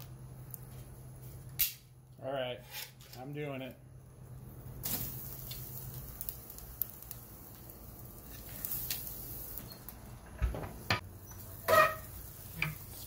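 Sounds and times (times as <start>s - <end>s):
charcoal crackling and hissing: 0.0s - 13.0s.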